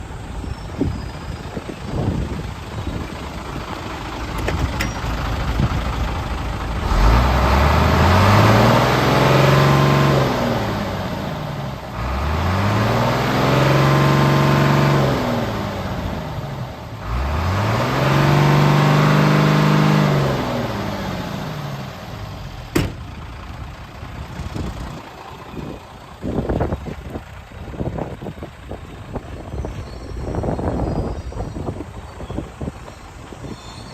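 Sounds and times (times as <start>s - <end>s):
diesel truck engine revving: 0.0s - 33.9s.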